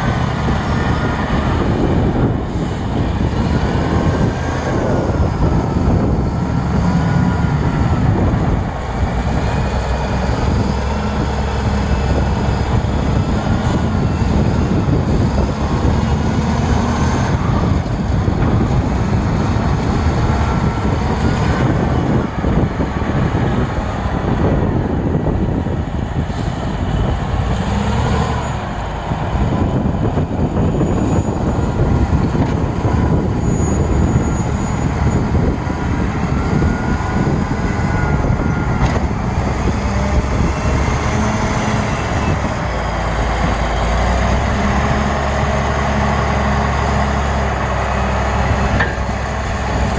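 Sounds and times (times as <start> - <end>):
diesel engine rumbling under load: 0.0 - 49.9.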